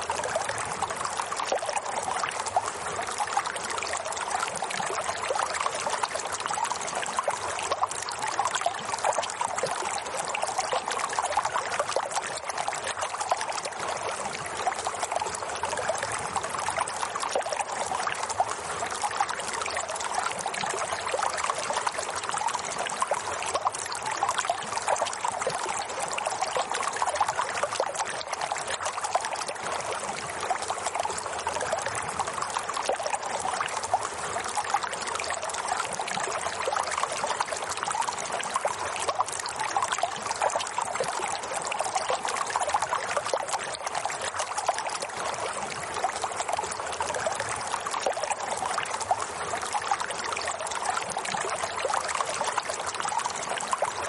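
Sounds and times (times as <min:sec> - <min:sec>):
water trickling over stones: 0:00.0 - 0:54.0.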